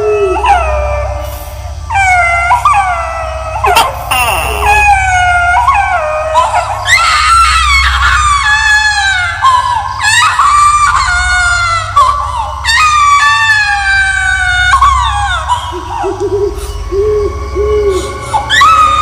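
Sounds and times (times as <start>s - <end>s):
low droning hum: 0.0s - 19.0s
high-pitched ghostly wailing: 1.9s - 12.0s, 12.6s - 19.0s.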